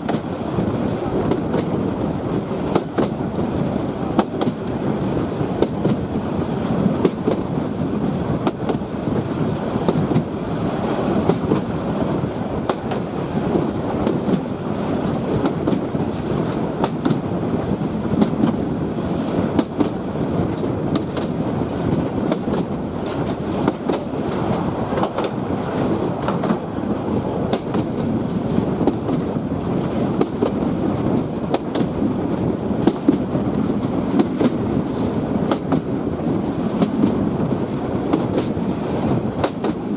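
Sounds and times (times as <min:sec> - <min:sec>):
train clicks and rattles: 0:00.0 - 0:39.9
train wheels rumbling on rails: 0:00.0 - 0:39.9.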